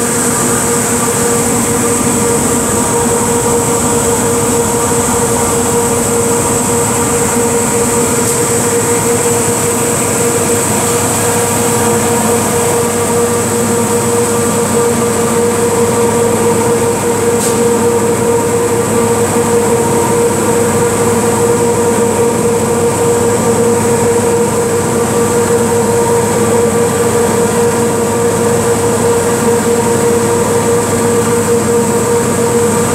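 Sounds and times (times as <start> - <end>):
deburring machine humming and whining: 0.0 - 32.9.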